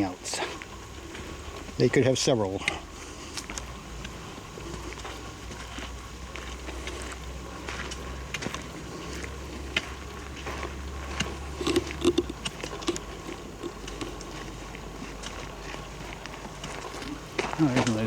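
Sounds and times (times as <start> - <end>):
low rumble of handling or wind: 0.0 - 18.0
footsteps crunching on dry leaves: 2.4 - 18.0.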